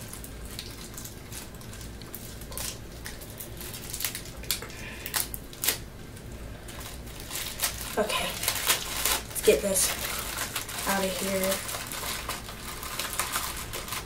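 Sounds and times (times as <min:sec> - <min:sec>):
knife cutting plastic wrapping: 0:00.0 - 0:05.9, 0:06.7 - 0:14.0
plastic crinkling: 0:00.0 - 0:14.0.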